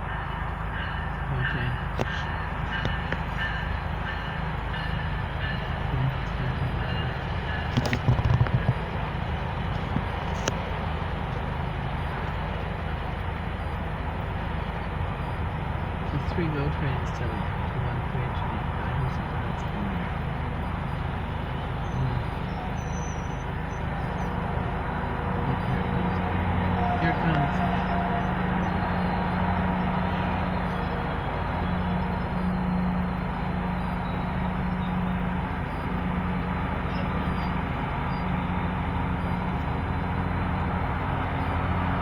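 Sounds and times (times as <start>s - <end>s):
diesel train rumbling: 0.0s - 42.0s.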